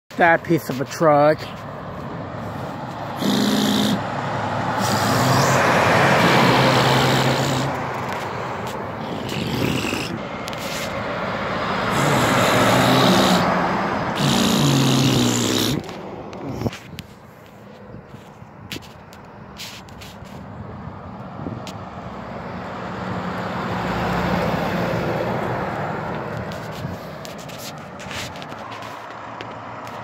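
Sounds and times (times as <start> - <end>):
vehicles driving past: 0.1 - 30.0.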